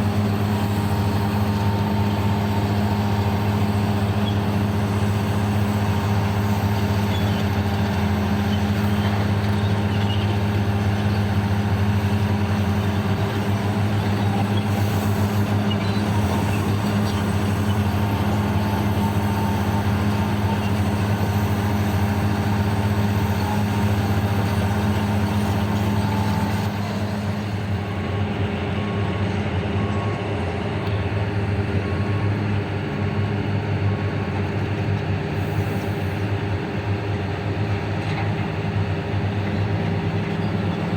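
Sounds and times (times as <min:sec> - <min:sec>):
heavy diesel engines humming: 0:00.0 - 0:40.9.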